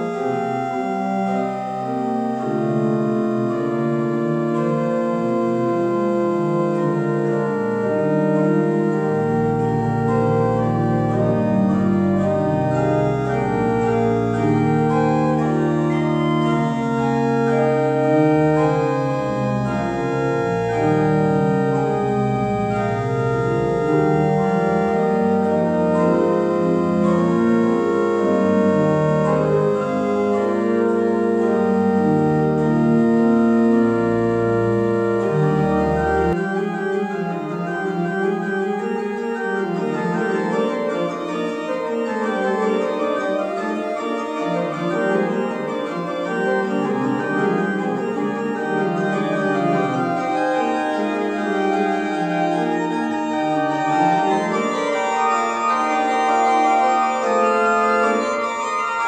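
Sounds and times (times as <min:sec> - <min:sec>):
deep organ pedal bass notes: 0:00.0 - 0:59.0
pipe organ playing: 0:00.0 - 0:59.0.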